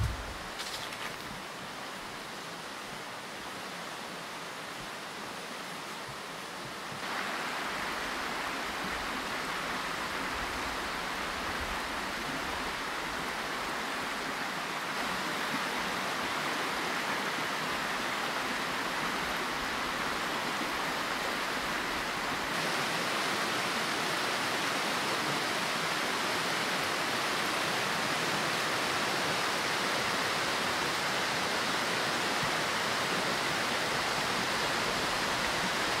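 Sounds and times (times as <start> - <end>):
stream water rushing: 0.0 - 36.0.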